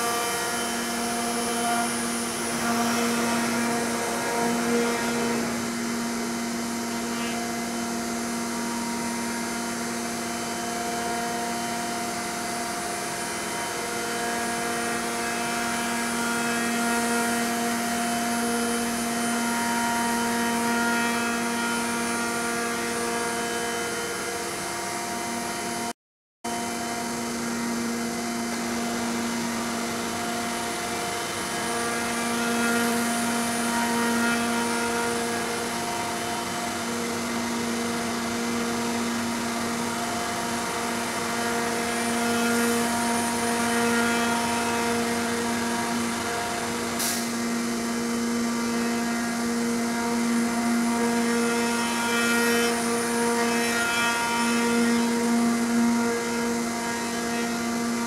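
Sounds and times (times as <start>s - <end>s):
router spindle whining: 0.0s - 25.8s, 26.5s - 58.0s.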